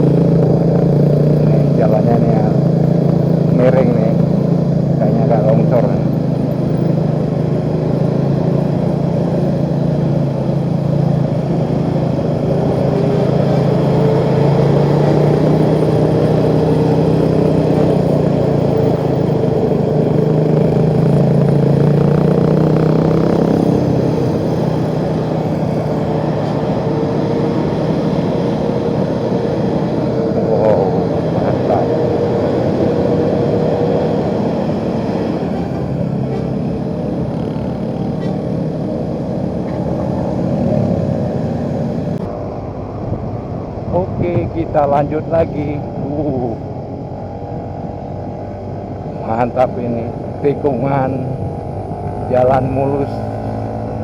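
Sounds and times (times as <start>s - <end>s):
motorcycle engine cruising: 0.0s - 54.0s
road and wind noise: 0.0s - 54.0s.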